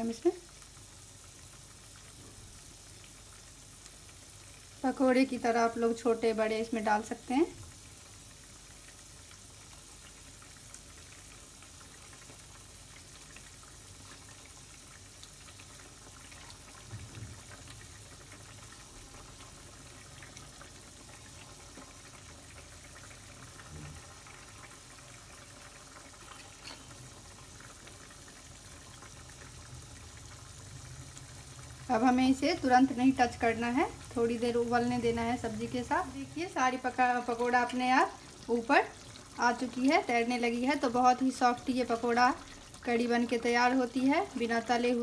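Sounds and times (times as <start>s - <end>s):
gravy bubbling: 7.0s - 45.0s.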